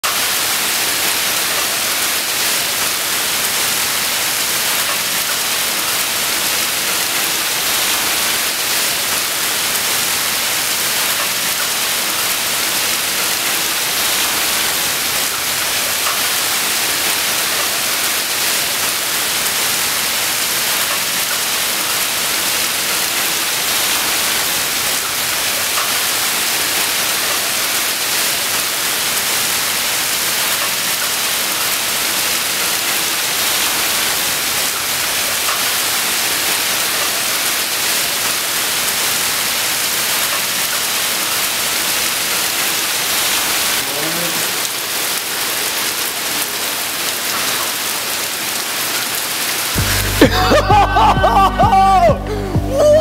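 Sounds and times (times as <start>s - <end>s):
heavy rain on pavement: 0.0s - 53.0s.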